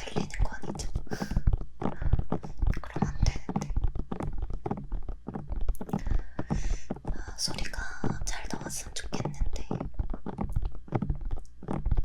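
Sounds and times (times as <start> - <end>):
fingertips tapping on microphone: 0.0 - 12.0.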